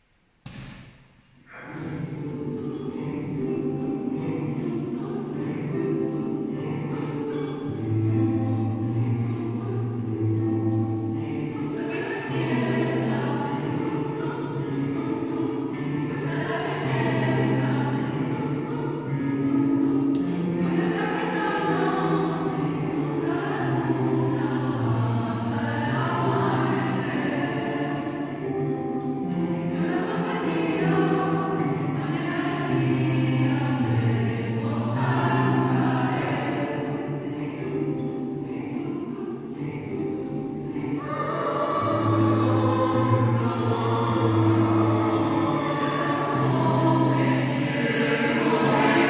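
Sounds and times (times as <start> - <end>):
choir singing chords: 1.4 - 49.0.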